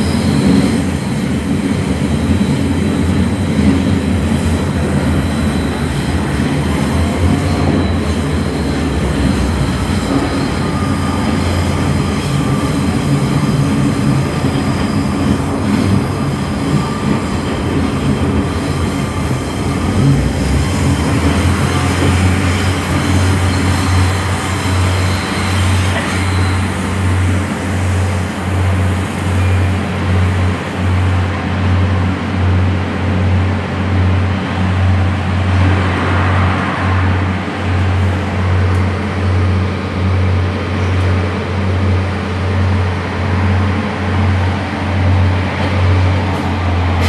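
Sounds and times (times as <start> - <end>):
diesel railbus engine drone: 0.0 - 47.0
wheels rumbling on track: 0.0 - 47.0.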